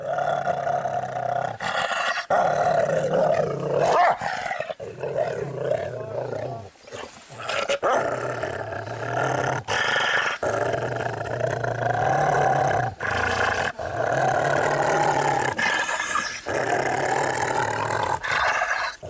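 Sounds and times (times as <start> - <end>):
dog growling: 0.0 - 19.0.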